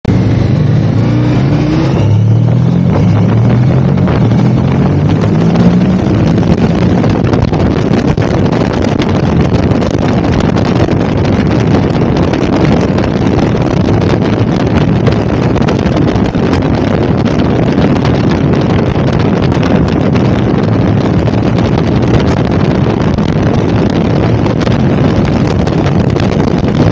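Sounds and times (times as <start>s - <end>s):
motorcycle engine accelerating: 0.0s - 26.9s
wind noise on microphone: 0.0s - 26.9s.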